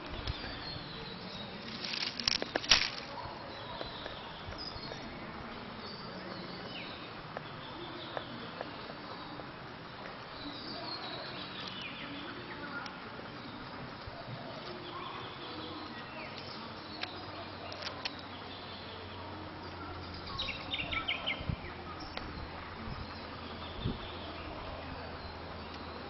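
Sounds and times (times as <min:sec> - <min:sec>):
birds chirping and calling: 0:00.0 - 0:09.4, 0:10.3 - 0:26.0
outdoor background noise: 0:00.0 - 0:26.0.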